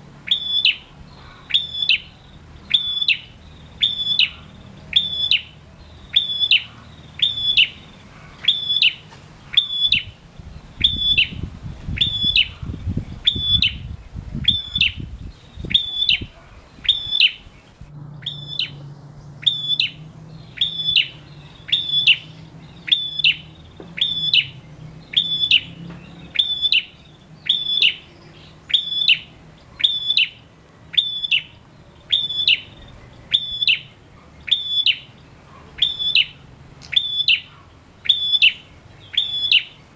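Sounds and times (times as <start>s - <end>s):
bird singing high sharp call: 0.2s - 39.9s.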